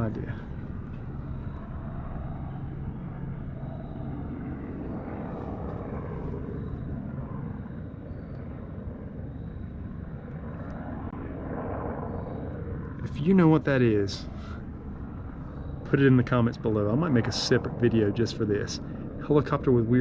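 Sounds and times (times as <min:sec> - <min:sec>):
distant helicopter drone: 0:00.0 - 0:20.0.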